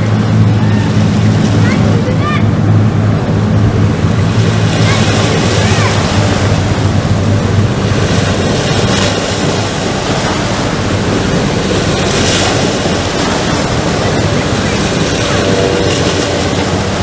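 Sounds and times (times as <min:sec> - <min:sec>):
boat engine drone: 0:00.0 - 0:17.0
river rapids rushing: 0:00.0 - 0:17.0.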